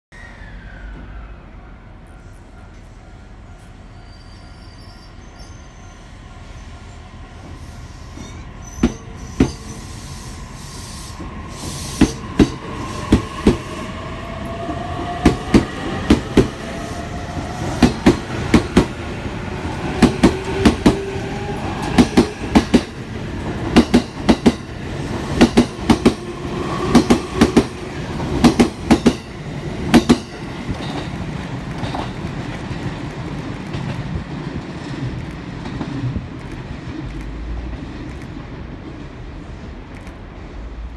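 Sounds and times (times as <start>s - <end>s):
train rumble: 0.2s - 40.9s.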